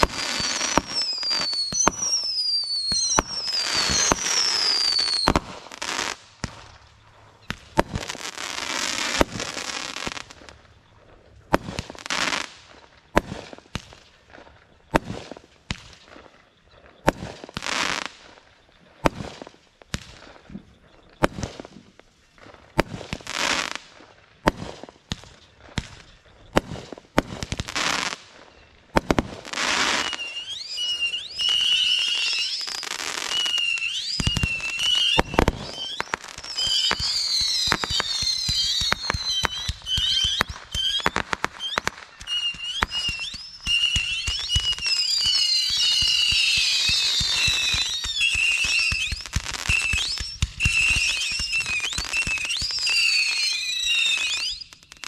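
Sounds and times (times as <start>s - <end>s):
fireworks bangs: 0.0s - 55.0s
high wavering firework whistles: 0.0s - 55.0s
hissing crackling firework bursts: 0.0s - 55.0s.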